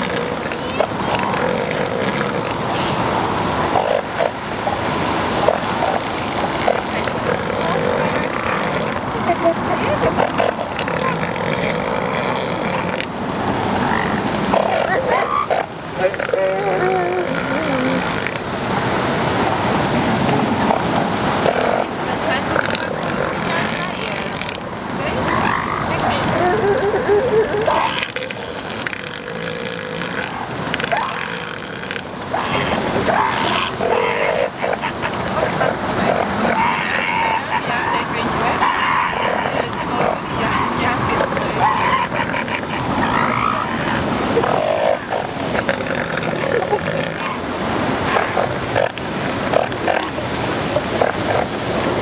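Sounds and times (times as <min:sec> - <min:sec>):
elephant seal calling: 0:00.0 - 0:03.1, 0:05.4 - 0:13.1, 0:13.7 - 0:18.4, 0:22.5 - 0:51.6.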